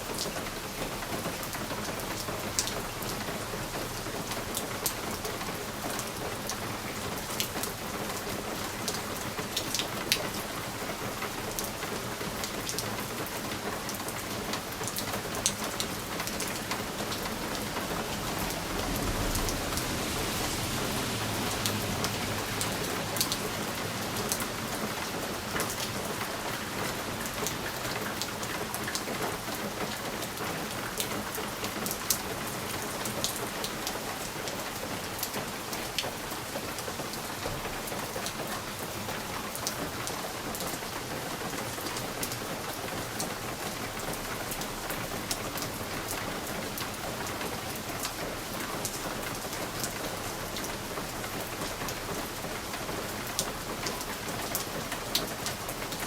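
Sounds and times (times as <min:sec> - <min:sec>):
rain pattering on window: 0:00.0 - 0:56.0.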